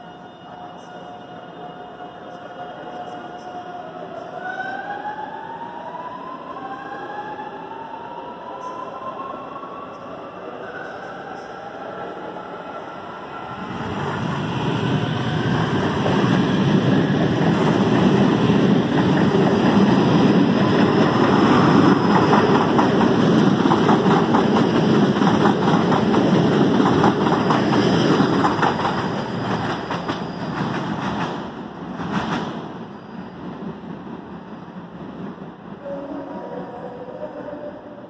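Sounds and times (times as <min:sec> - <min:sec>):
commuter train passing: 0:00.0 - 0:38.0.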